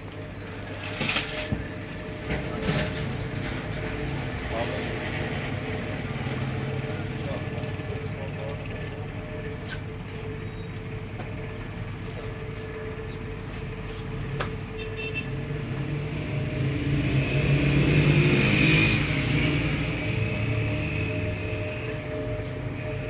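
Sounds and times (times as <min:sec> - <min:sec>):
motor vehicle running: 0:00.0 - 0:23.0.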